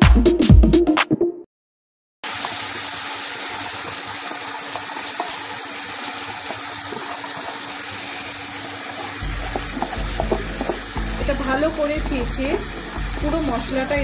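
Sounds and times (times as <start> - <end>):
frying hiss in a pan: 2.2 - 14.0.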